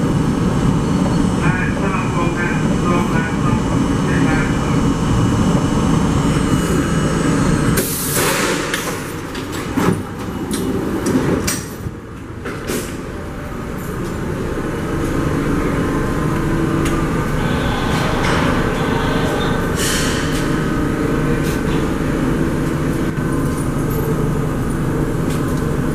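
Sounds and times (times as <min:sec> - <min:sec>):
subway train rumble: 0:00.0 - 0:25.9
train low hum: 0:00.0 - 0:25.9.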